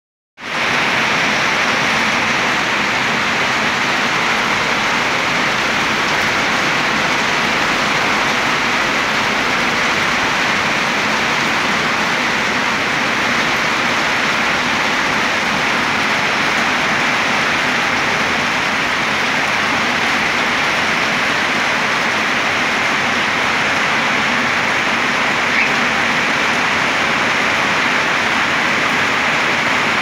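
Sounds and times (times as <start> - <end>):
steady rain falling: 0.4 - 30.0.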